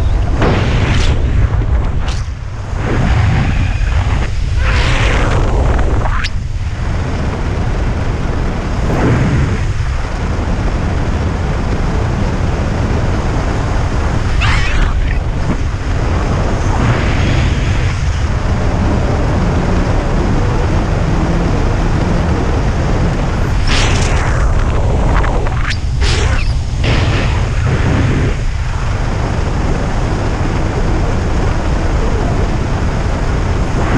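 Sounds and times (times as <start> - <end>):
wind rushing over microphone: 0.0 - 33.9.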